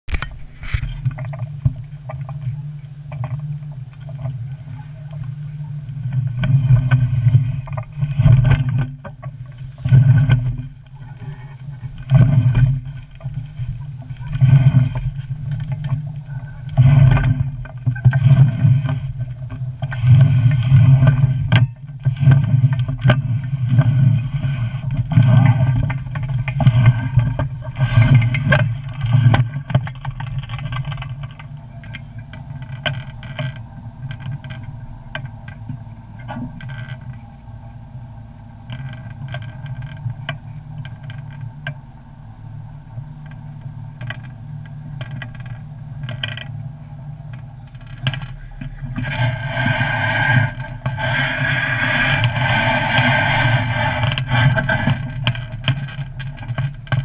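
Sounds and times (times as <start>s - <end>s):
low rumble of wind: 0.0s - 57.0s.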